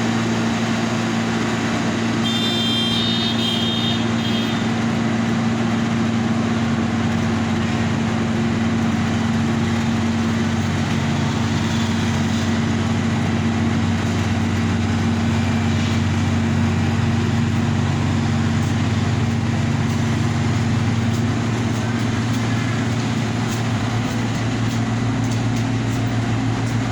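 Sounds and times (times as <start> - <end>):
heavy machine engine droning: 0.0 - 26.9.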